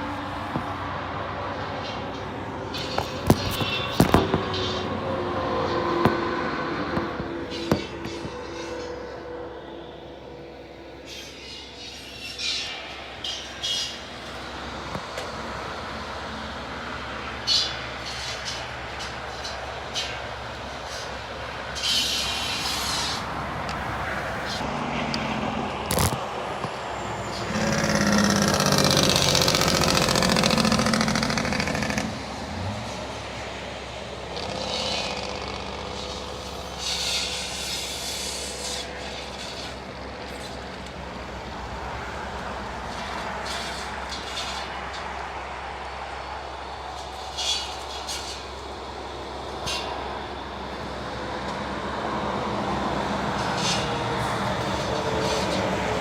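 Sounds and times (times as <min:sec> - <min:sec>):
heavy engine equipment running: 0:00.0 - 0:56.0.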